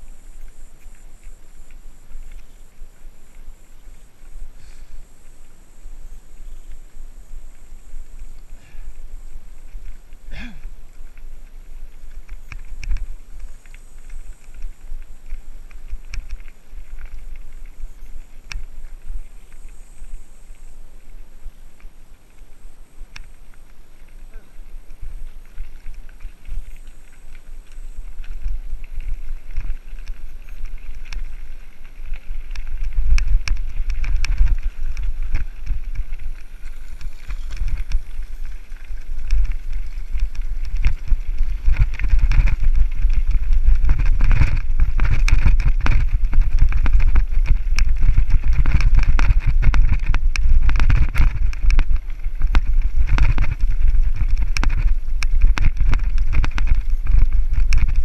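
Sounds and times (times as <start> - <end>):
bike rattling over bumps: 0.0 - 58.0
wind rumbling on microphone: 0.0 - 58.0.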